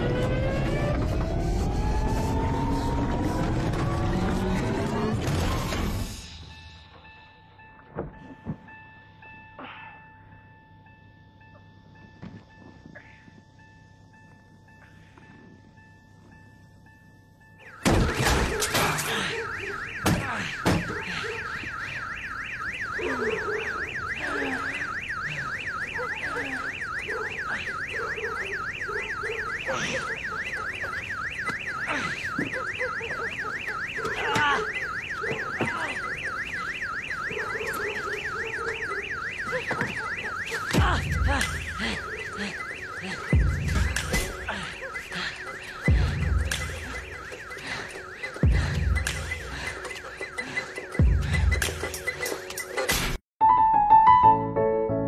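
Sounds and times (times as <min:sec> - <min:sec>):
car alarm siren warbling: 0:00.0 - 0:52.9.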